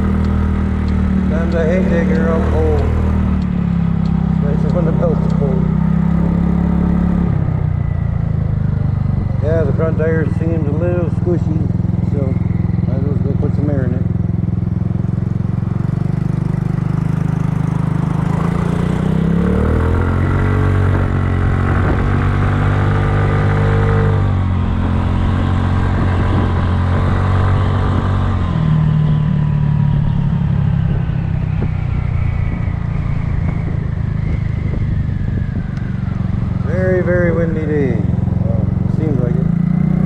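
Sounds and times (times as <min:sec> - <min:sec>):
scooter engine running: 0:00.0 - 0:32.2, 0:33.6 - 0:40.0.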